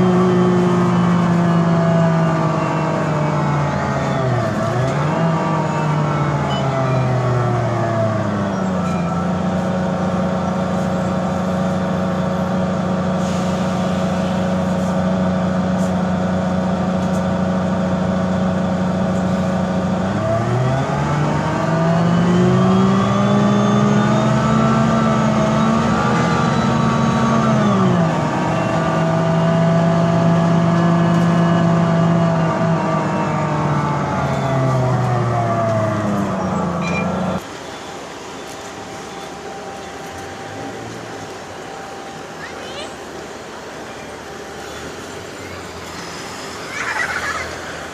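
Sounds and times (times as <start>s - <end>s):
bus diesel engine drone: 0.0s - 47.9s.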